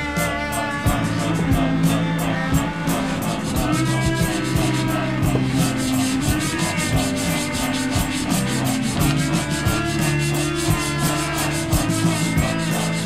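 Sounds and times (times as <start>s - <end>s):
music with held notes: 0.0s - 13.0s
sandpaper rubbing on metal: 0.5s - 13.0s.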